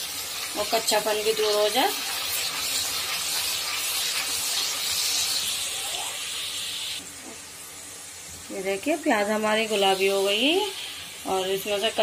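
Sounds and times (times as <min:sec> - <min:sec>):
onion paste sizzling in hot oil: 0:00.0 - 0:12.0.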